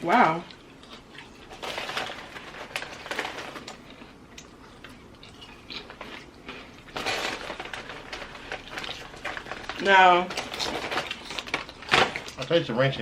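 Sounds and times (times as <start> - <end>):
potato chips crunching: 0.4 - 12.7.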